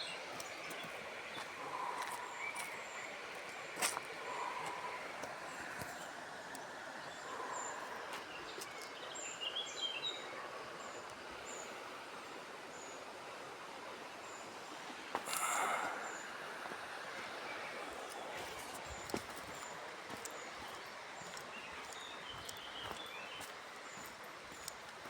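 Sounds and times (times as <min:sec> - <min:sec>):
small birds chirping: 0:00.0 - 0:11.9, 0:15.2 - 0:25.0
steady background hiss: 0:00.0 - 0:25.0.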